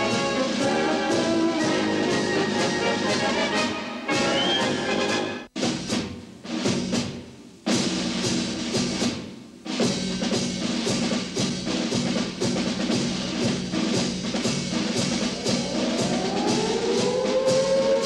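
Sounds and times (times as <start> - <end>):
steady drum beat: 0.0 - 4.4, 5.5 - 18.0
military band march: 0.0 - 18.0.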